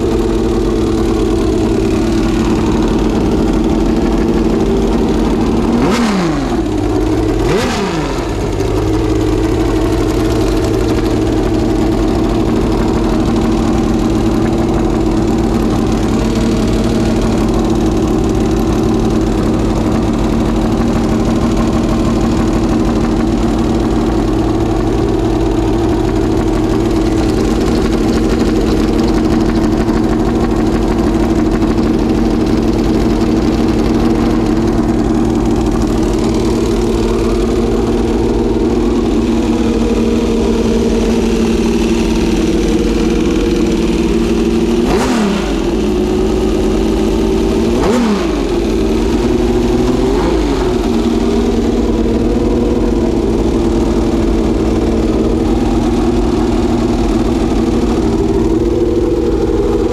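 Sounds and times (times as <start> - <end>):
racing engine revving and idling: 0.0 - 59.9.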